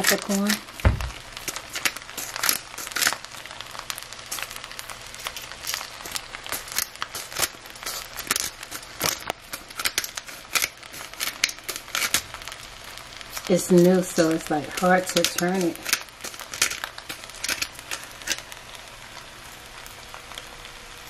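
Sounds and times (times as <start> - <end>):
pepper grinder crunching: 0.0 - 18.6.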